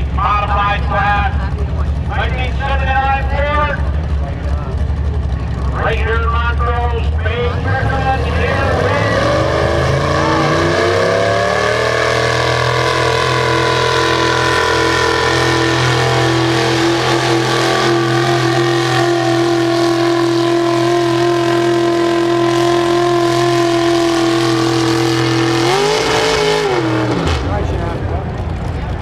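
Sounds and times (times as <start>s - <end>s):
truck engine running hard: 0.0s - 29.0s.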